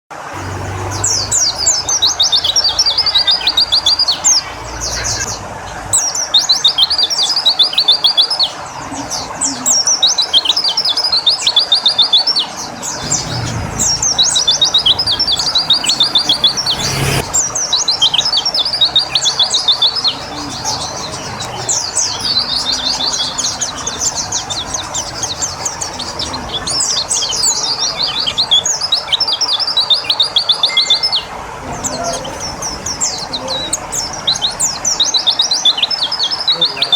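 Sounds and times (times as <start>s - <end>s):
songbird rapid chirping: 0.4s - 36.9s.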